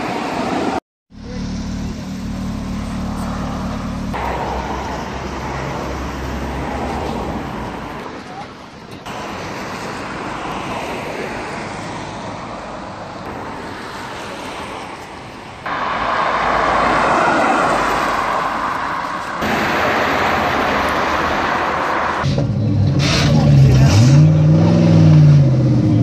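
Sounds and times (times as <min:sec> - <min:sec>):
car engines and exhausts passing: 0:00.0 - 0:26.0.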